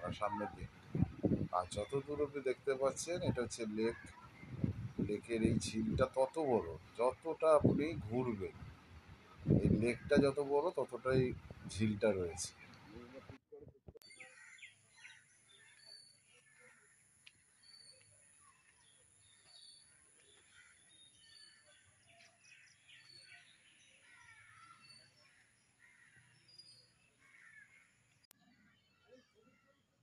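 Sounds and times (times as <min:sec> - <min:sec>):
birds chirping: 0:00.0 - 0:13.4, 0:14.0 - 0:30.0.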